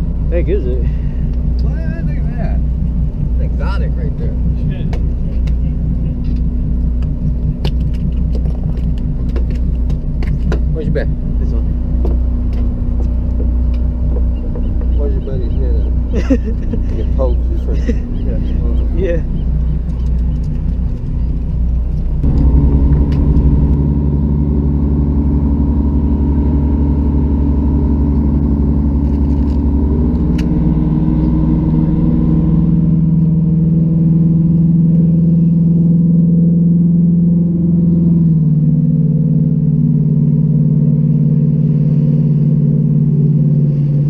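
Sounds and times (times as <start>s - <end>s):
boat engine running: 0.0s - 44.0s.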